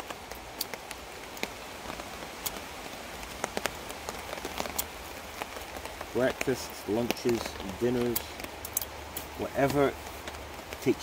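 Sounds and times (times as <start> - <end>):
rain drop taps: 0.0 - 11.0
rain on a tarp: 0.0 - 11.0.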